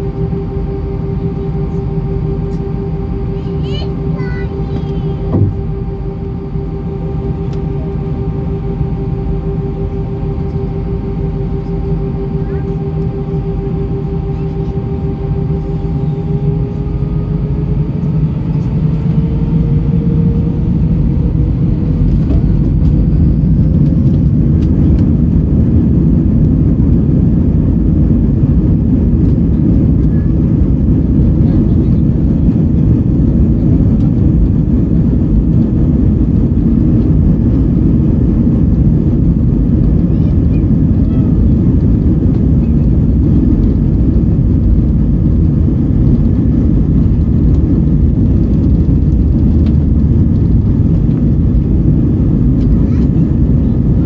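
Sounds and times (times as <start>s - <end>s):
engine and airflow roar: 0.0s - 54.0s
rising whine: 0.0s - 54.0s.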